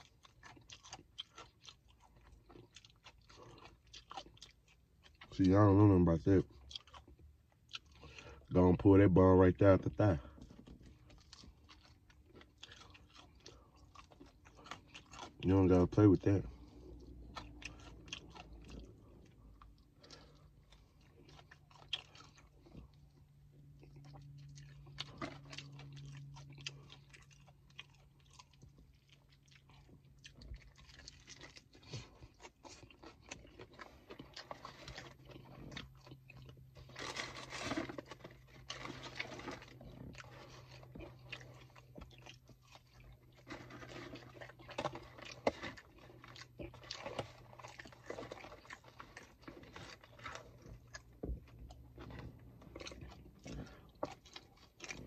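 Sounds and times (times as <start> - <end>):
chewing and crunching: 0.0 - 55.0
low steady hum: 0.0 - 55.0.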